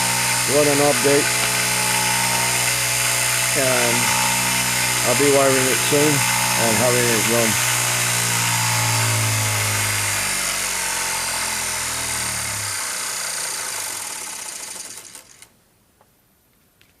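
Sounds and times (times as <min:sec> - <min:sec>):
small electric motor whirring: 0:00.0 - 0:15.5.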